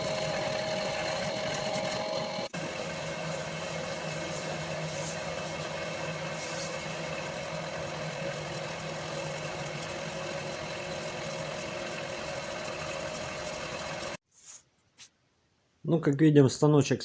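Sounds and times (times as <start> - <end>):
milling machine cutting steel: 0.0 - 14.2.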